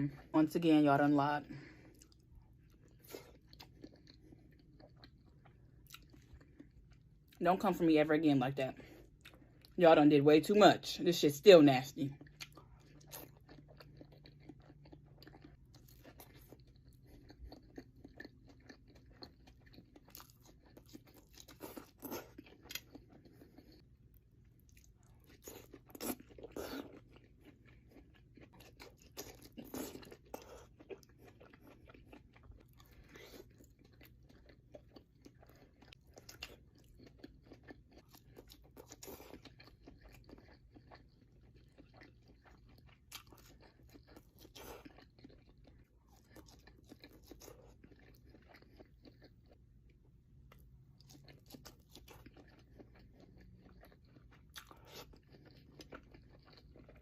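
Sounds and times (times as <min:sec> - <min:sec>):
person chewing and biting food: 0:01.9 - 0:07.4, 0:12.2 - 0:57.0.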